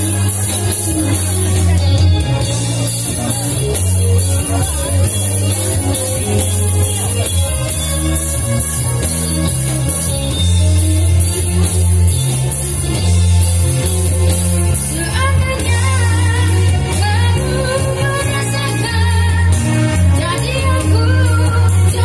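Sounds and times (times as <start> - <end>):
guitar: 0.0 - 22.0
heavy bass line: 0.0 - 22.0
live band playing pop: 0.0 - 22.0.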